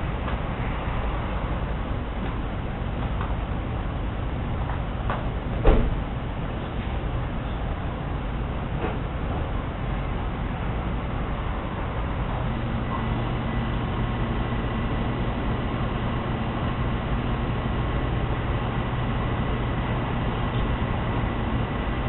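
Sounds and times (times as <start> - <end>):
low hum: 0.0 - 22.0
low rumbling noise: 0.0 - 22.0.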